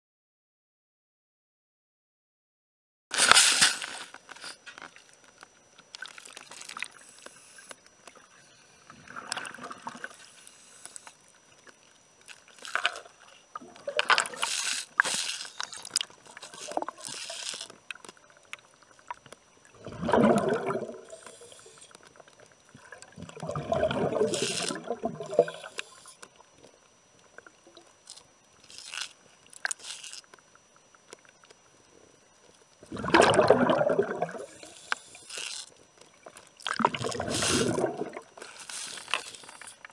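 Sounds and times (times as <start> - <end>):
water bubbling and sloshing underwater: 3.8 - 39.9.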